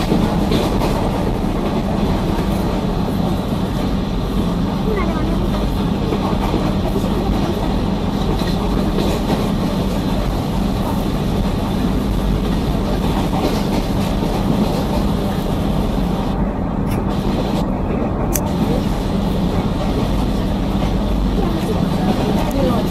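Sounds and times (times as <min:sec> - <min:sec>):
clickety-clack over rail joints: 0:00.0 - 0:16.1, 0:16.8 - 0:22.9
train hum: 0:00.0 - 0:22.9
train wheels rumbling on rails: 0:00.0 - 0:22.9.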